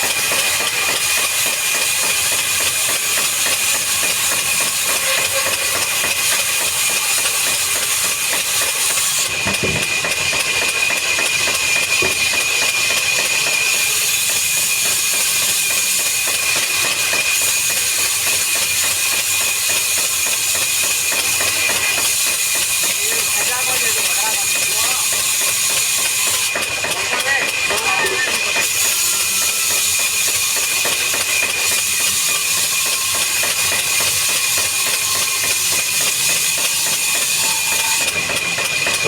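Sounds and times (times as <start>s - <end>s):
woodworking machinery hissing whine: 0.0s - 39.0s.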